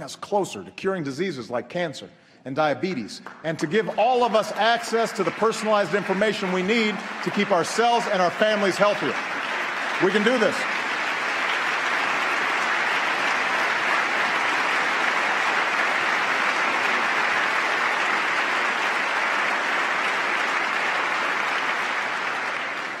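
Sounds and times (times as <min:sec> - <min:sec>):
large crowd applauding: 0:03.2 - 0:23.0.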